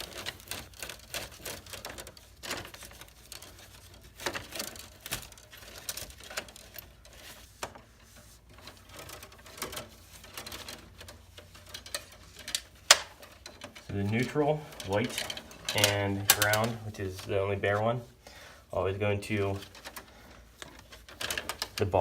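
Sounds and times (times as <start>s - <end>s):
cable clicks taps and scrapes: 0.0s - 18.1s, 19.3s - 22.0s.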